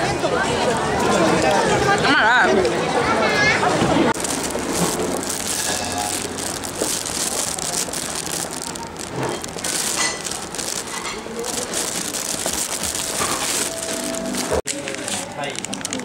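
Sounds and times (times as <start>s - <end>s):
faint indistinct voices: 0.0s - 16.0s.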